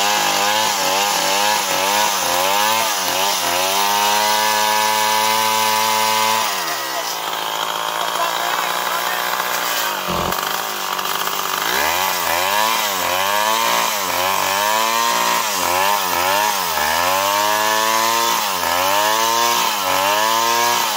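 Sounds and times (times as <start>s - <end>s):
chainsaw throttle revving: 0.0s - 20.9s.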